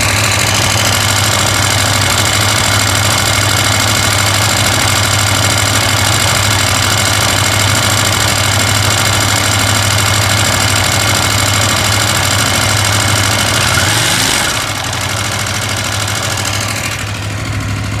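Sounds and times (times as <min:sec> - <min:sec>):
engine rattle: 0:00.0 - 0:18.0
motorcycle engine idling: 0:00.0 - 0:18.0.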